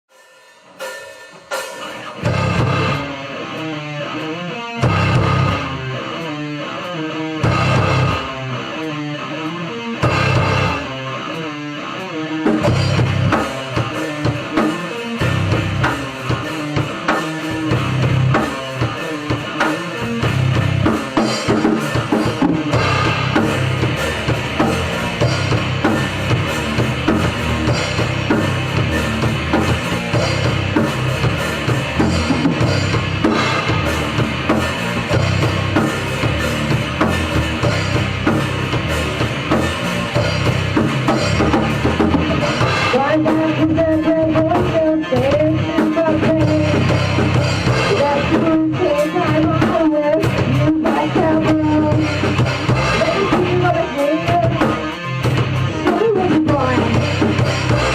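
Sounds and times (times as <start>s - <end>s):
rock band playing: 0.1s - 57.9s
bass drum and snare beat: 0.8s - 11.5s, 12.4s - 57.9s.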